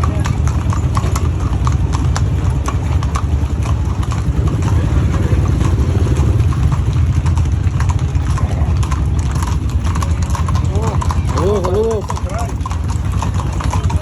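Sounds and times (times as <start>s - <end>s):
engine rumbling at low revs: 0.0s - 14.0s
horse hooves clopping: 0.0s - 14.0s.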